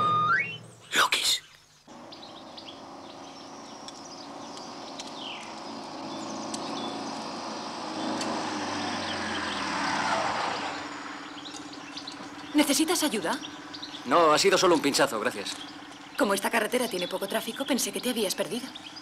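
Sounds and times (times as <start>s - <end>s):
tyres on gravel road: 1.8s - 19.0s
car engine running: 1.9s - 19.0s.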